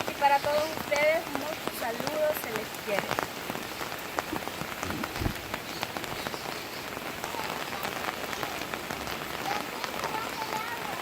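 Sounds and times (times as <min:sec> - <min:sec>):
light rain drops ticking: 0:00.0 - 0:11.0.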